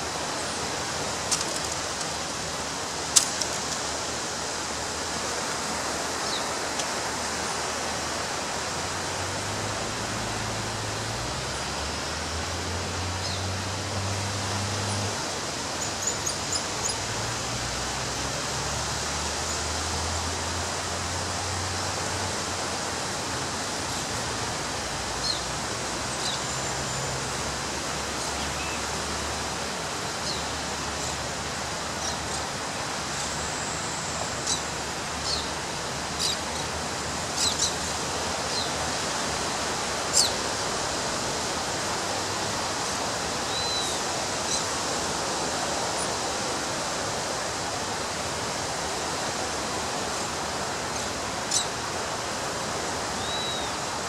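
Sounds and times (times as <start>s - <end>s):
surf washing on a beach: 0.0s - 54.0s.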